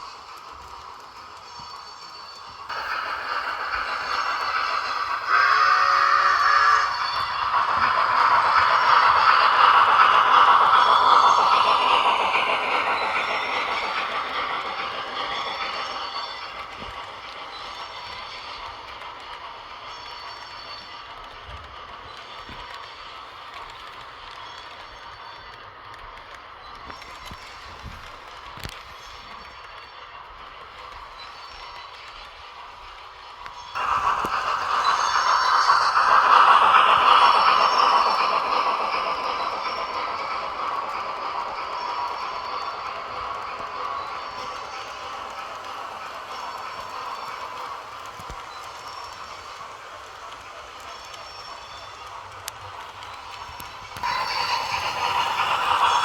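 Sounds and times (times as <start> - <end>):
model train motor whirring: 0.0 - 56.0.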